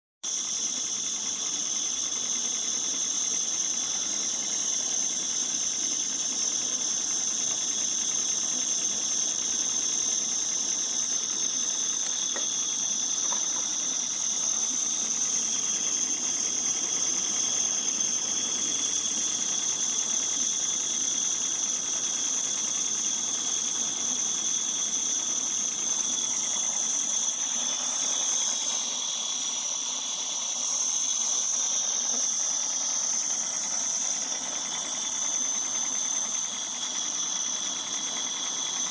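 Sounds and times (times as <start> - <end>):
model steam locomotive hissing: 0.2 - 38.9.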